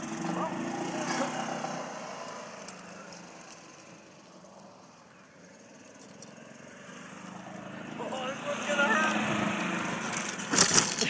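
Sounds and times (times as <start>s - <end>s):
golf cart running: 0.0s - 11.0s.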